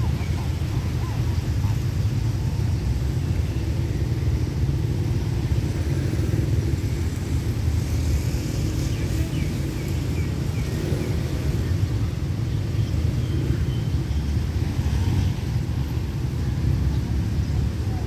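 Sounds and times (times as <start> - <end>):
road vehicles idling: 0.0 - 18.0.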